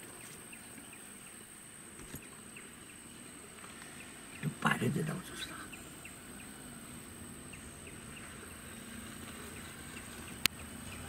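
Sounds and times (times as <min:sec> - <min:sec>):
faint chirps: 0:00.0 - 0:11.0
high-pitched insect whine: 0:00.0 - 0:11.0.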